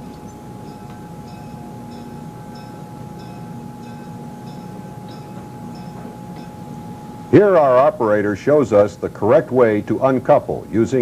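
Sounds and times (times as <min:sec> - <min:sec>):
locomotive bell ringing: 0:00.0 - 0:10.3
steady high hum: 0:00.0 - 0:11.0.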